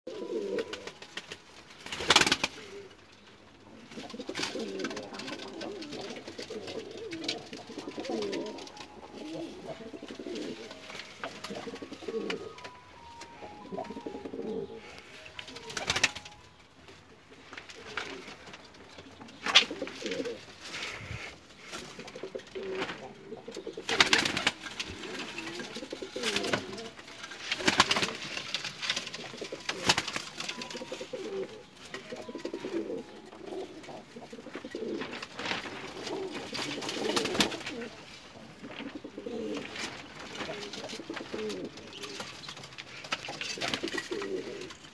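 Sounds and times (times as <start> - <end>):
pigeons cooing: 0.1 - 1.1, 3.7 - 16.4, 19.4 - 44.9.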